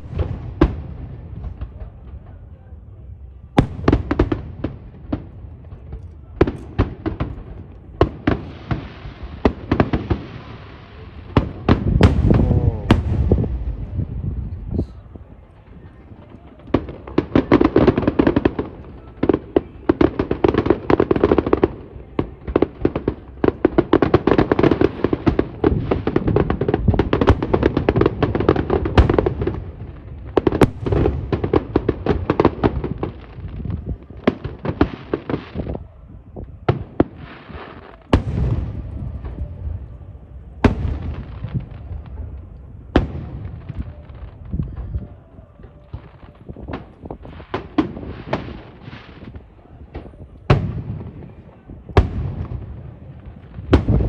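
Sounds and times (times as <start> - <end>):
fireworks bangs and crackling: 0.0 - 54.0
fireworks booms: 0.0 - 54.0.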